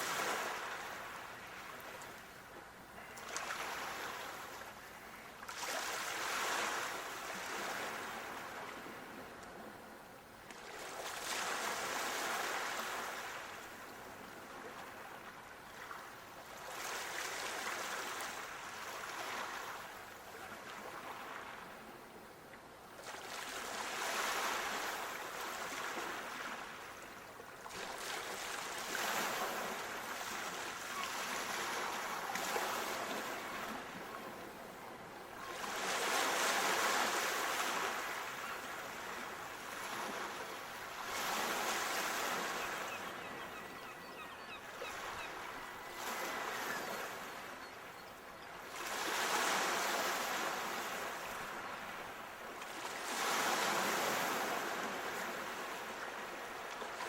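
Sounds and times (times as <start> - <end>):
ocean waves breaking: 0.0 - 9.4, 10.6 - 21.9, 22.9 - 47.7, 48.6 - 57.0.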